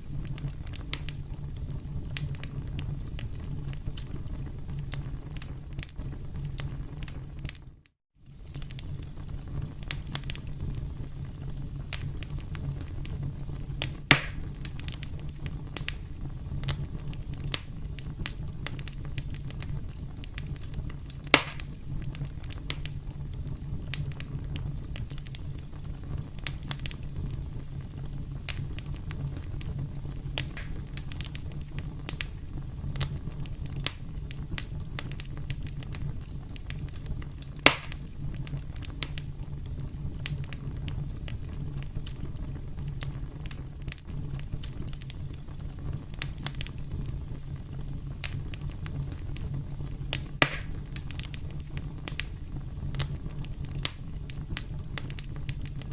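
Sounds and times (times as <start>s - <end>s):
campfire crackling: 0.0s - 55.9s
loud fire pops: 0.0s - 55.9s.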